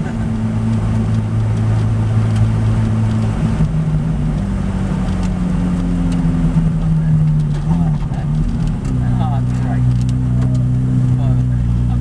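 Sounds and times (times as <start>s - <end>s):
car engine heard from inside: 0.0s - 12.0s.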